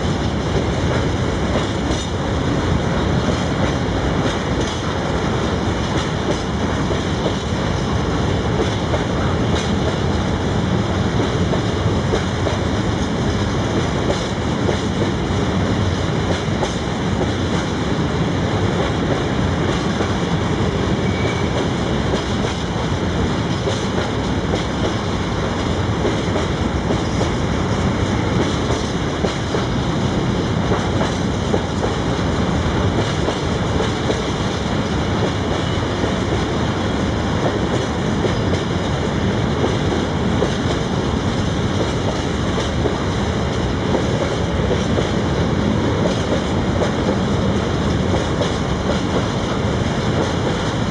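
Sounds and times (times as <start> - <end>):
freight train rolling past: 0.0 - 50.9.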